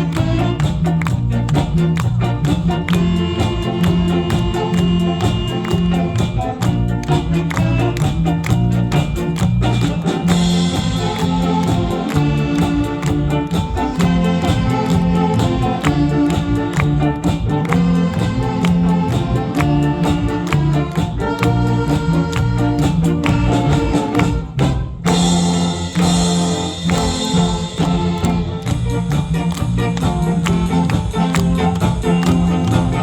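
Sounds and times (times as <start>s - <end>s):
saxophone big band playing: 0.0s - 33.0s.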